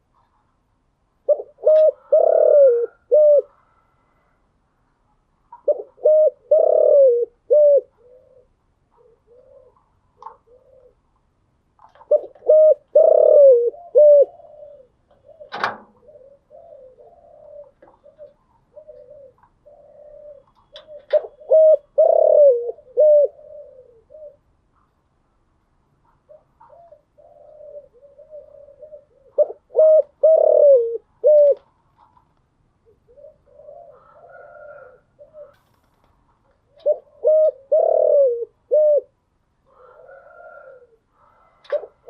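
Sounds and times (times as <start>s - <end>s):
dove cooing: 1.2s - 4.3s, 5.5s - 11.2s, 11.8s - 24.9s, 26.0s - 32.2s, 32.8s - 42.0s.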